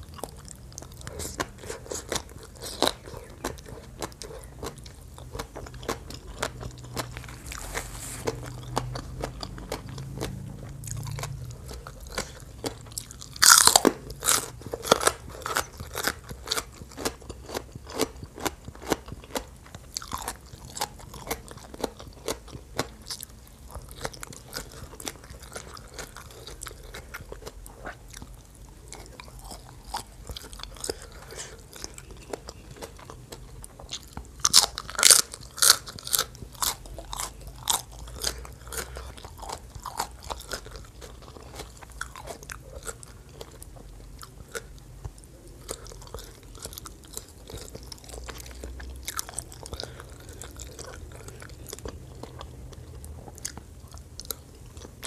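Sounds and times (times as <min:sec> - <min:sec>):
chewing crunchy salad: 0:00.0 - 0:55.0.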